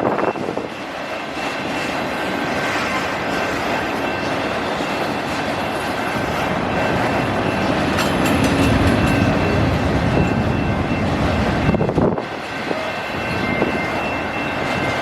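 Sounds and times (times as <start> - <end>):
freight cars rolling on rails: 0.0 - 15.0.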